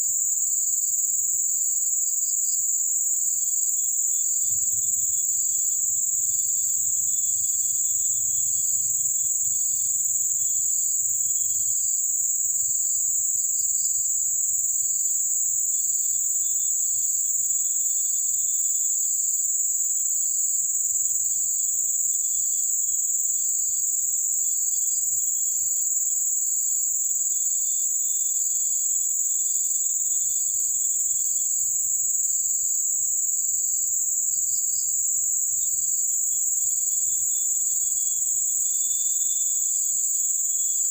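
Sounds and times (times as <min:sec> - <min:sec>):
insect chirps: 0:00.0 - 0:40.9
insects high-pitched drone: 0:00.0 - 0:40.9.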